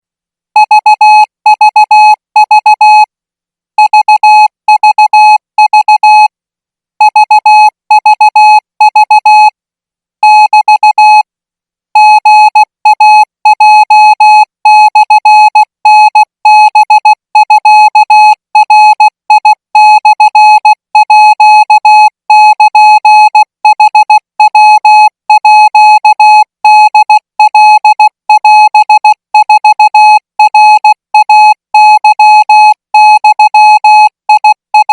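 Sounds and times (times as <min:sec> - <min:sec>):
morse code beeps: 0:00.6 - 0:03.1, 0:03.8 - 0:06.3, 0:07.1 - 0:09.5, 0:10.2 - 0:11.2, 0:12.0 - 0:34.9.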